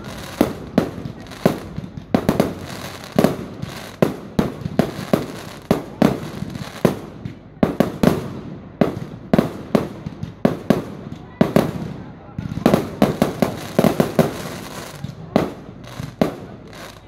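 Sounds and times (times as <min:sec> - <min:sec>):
fireworks bursting with bangs: 0:00.0 - 0:17.0.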